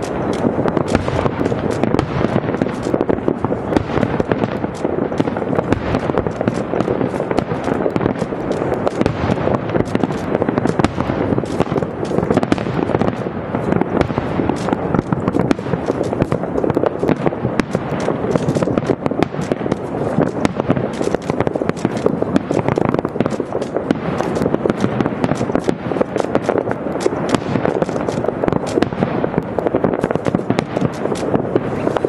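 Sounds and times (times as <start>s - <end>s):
firework shells bursting: 0.0s - 32.0s.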